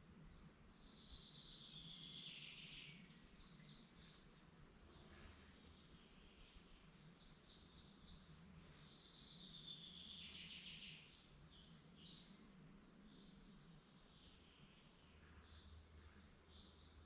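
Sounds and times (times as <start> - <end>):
woodland birdsong: 0.0 - 17.0.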